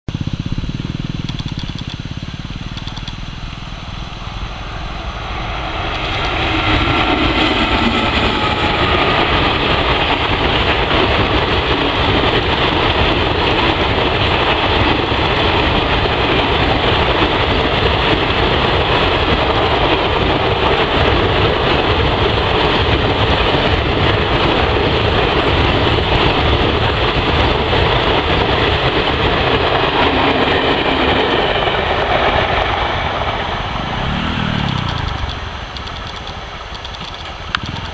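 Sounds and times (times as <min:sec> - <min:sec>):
train wheels on rail: 0:00.1 - 0:37.9.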